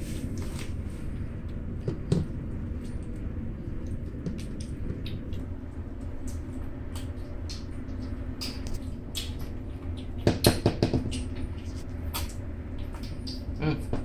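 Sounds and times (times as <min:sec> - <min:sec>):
kittens chewing wet food: 0:00.0 - 0:14.0
low hum: 0:00.0 - 0:14.0.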